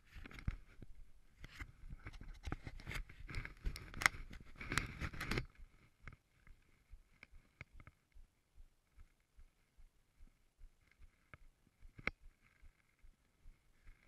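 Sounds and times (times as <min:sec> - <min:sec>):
gloved hand rubbing and tapping: 0:00.0 - 0:08.3, 0:08.9 - 0:14.0
faint clicks: 0:00.2 - 0:08.2, 0:10.8 - 0:14.0.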